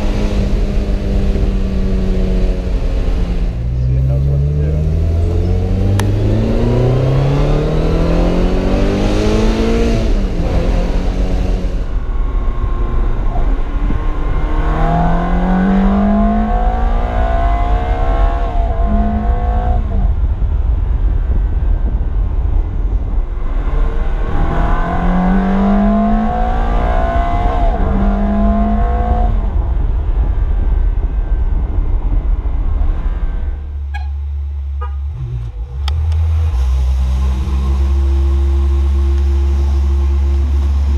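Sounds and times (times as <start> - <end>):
low road rumble: 0.0 - 40.9
sports car engine accelerating: 0.0 - 40.9.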